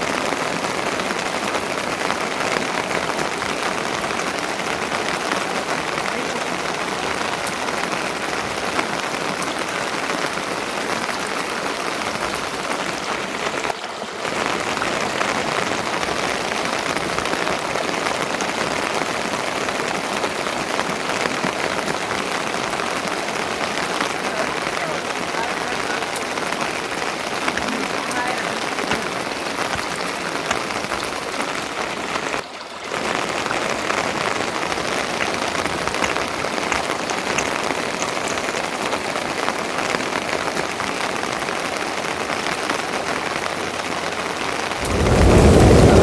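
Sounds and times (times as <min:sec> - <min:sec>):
rain falling: 0:00.0 - 0:46.0.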